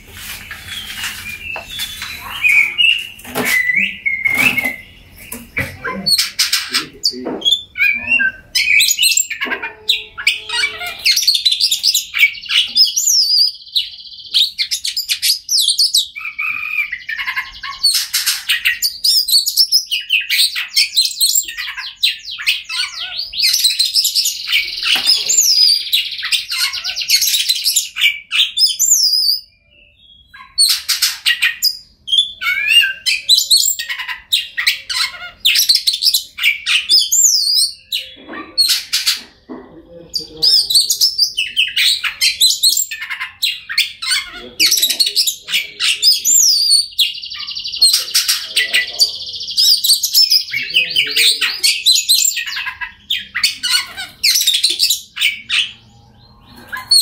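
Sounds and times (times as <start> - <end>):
songbird singing whistled song: 0.4 - 38.8, 40.4 - 57.0.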